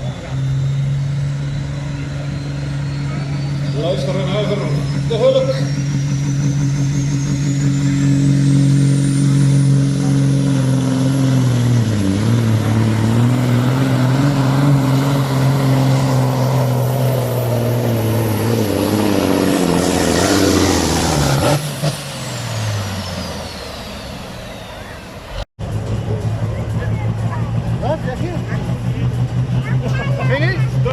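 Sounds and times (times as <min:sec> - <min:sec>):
diesel engine running flat out: 0:00.0 - 0:30.9.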